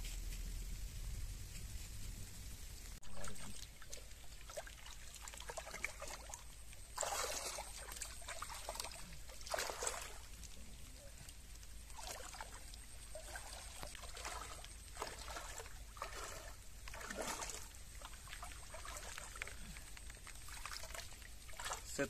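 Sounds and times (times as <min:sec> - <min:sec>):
shallow water trickling and splashing: 0:01.9 - 0:22.0.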